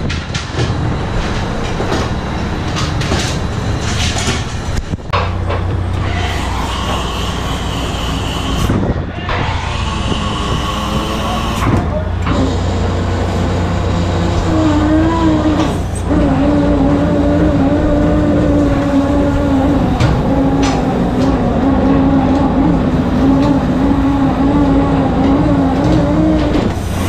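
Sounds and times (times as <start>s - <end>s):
boat machinery rumble: 0.0s - 27.0s
wavering mechanical hum: 0.0s - 27.0s.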